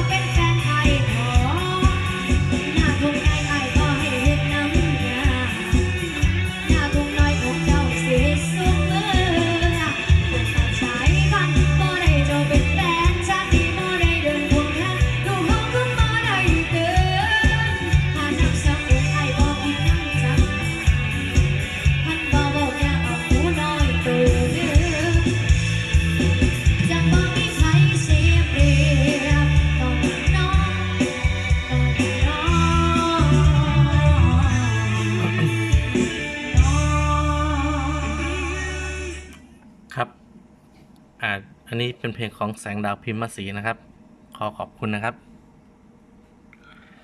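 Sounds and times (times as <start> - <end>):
pop song through loudspeaker: 0.0 - 39.7.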